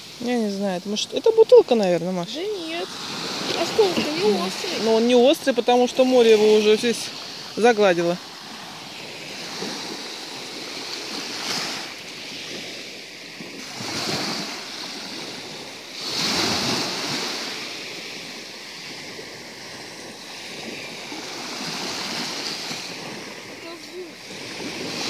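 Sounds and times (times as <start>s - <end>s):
waves breaking on pebble beach: 0.0s - 25.0s.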